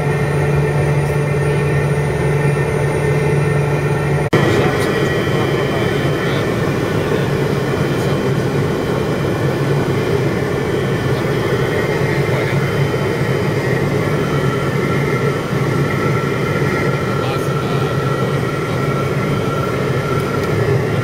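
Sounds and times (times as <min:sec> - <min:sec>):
turboprop engine cabin drone: 0:00.0 - 0:21.0.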